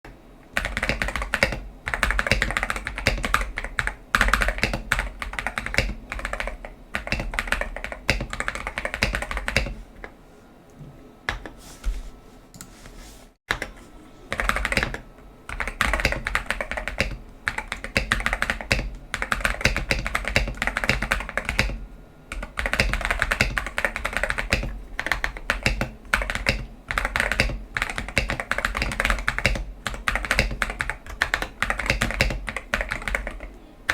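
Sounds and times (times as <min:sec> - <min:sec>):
mechanical keyboard typing: 0:00.6 - 0:09.8, 0:13.5 - 0:33.9.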